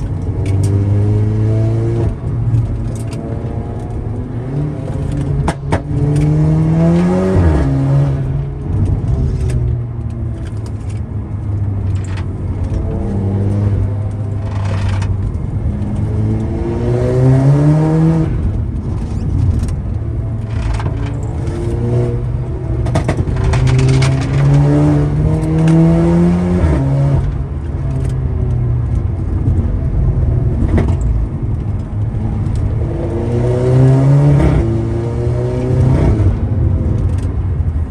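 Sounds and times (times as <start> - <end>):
turbocharged car engine accelerating: 0.0 - 37.9.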